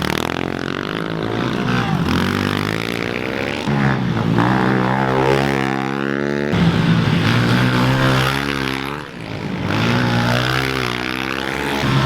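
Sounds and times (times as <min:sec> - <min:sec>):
small motorbike engines revving: 0:00.0 - 0:12.0.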